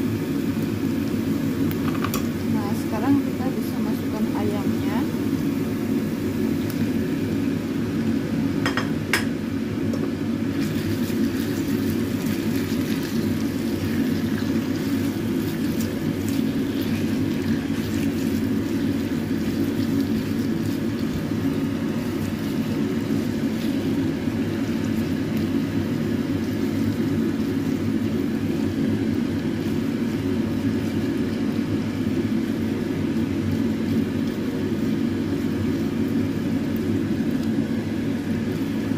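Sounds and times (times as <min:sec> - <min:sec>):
chicken sizzling in a pan: 0:00.0 - 0:38.9.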